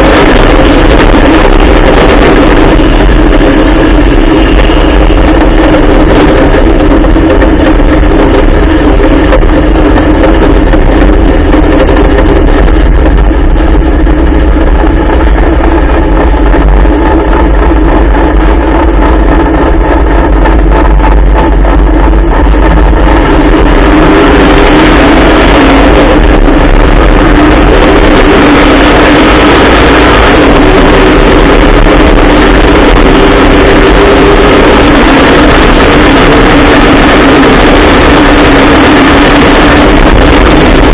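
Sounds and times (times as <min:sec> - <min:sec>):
loud truck engine running: 0:00.0 - 0:40.9.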